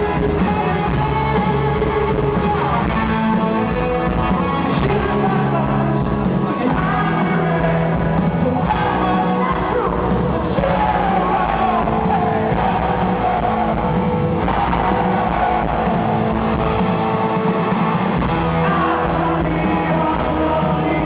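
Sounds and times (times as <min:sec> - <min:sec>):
person singing: 0:00.0 - 0:16.8, 0:18.3 - 0:21.0
electric guitar playing: 0:00.0 - 0:21.0.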